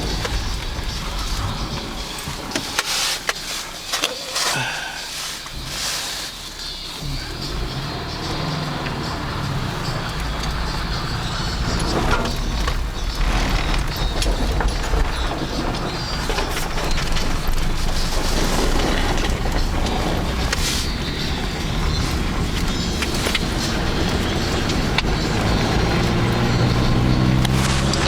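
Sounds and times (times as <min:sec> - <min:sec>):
car engine and tyres rumbling: 0:00.0 - 0:28.0.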